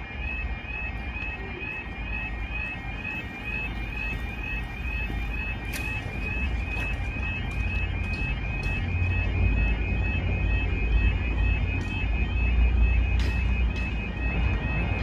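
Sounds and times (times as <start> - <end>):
level crossing warbling alarm: 0.0 - 15.0.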